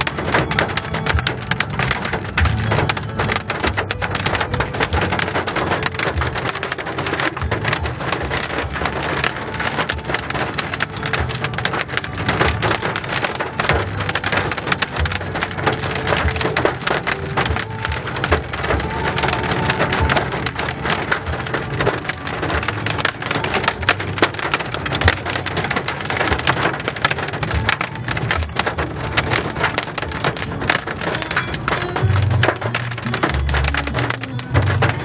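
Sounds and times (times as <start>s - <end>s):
hailstones pelting: 0.0s - 35.0s.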